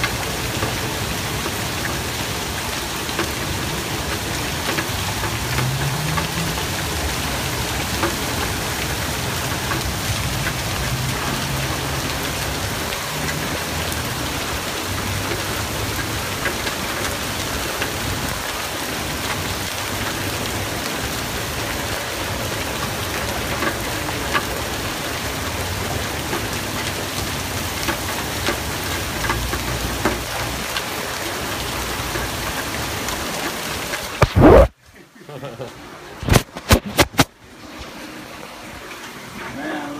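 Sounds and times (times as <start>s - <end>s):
hailstones ticking: 0.0s - 34.3s
heavy rain and hail: 0.0s - 39.9s.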